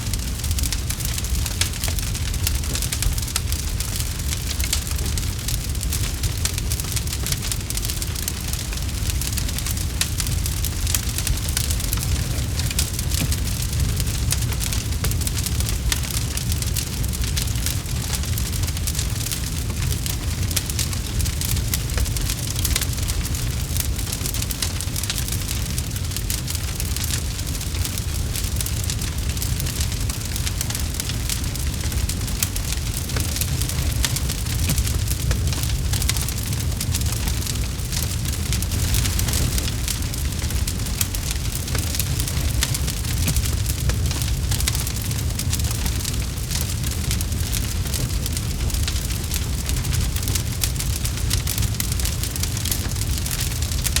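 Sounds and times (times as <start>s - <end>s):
low rush of flame: 0.0s - 54.0s
wood crackling and popping: 0.0s - 54.0s.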